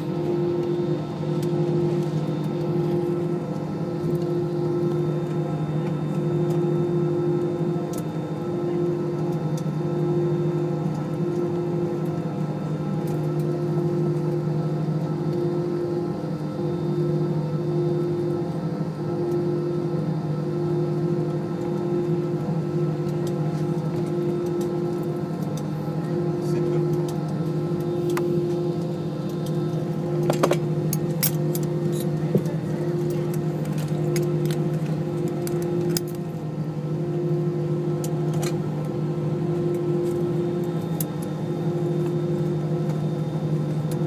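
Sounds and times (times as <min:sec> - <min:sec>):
airliner engine drone in cabin: 0:00.0 - 0:44.0.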